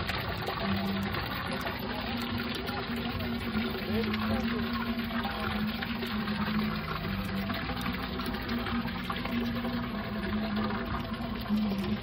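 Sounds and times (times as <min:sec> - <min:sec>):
water pouring and splashing: 0:00.0 - 0:12.0
low sustained tones: 0:00.4 - 0:12.0.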